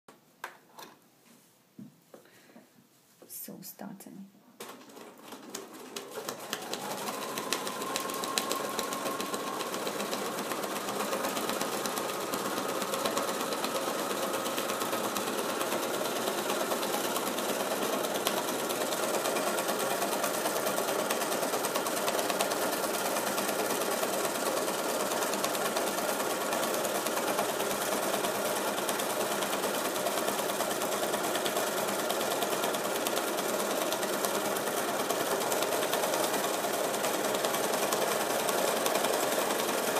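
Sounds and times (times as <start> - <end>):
sewing machine stitching: 4.6 - 39.9.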